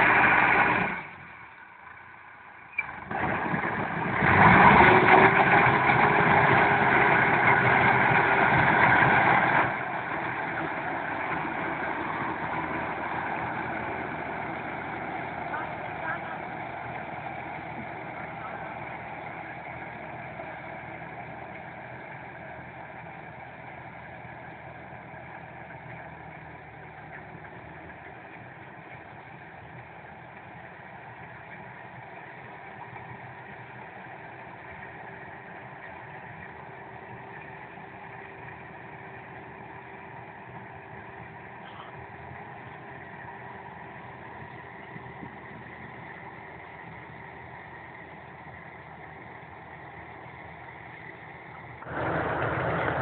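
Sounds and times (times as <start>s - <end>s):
harvester engine running: 0.0s - 53.0s.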